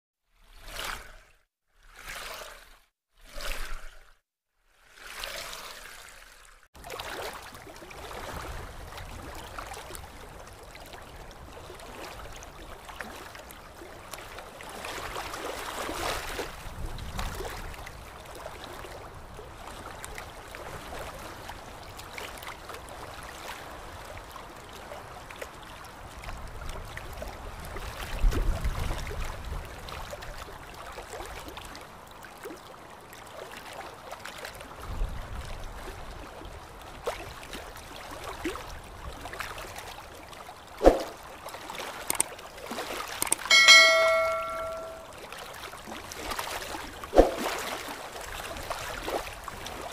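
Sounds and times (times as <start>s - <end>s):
water sloshing and splashing: 0.4s - 4.2s, 4.8s - 19.1s, 19.7s - 49.9s.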